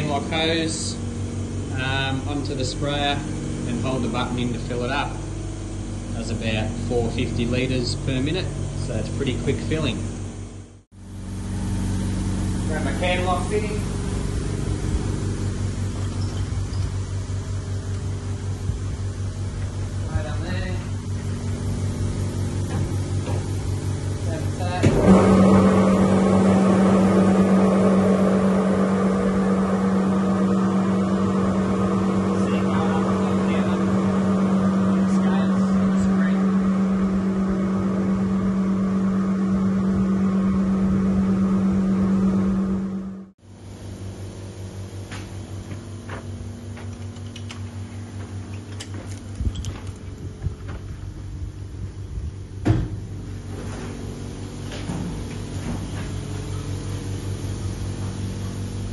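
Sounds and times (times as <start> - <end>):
electric pump humming: 0.0 - 58.9.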